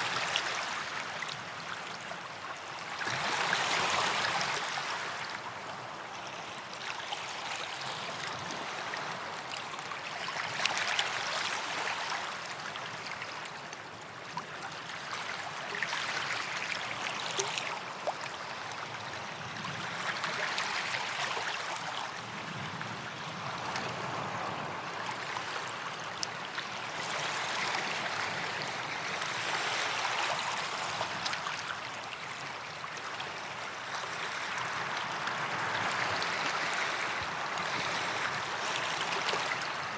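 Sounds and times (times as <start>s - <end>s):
sea waves washing on beach: 0.0s - 39.9s.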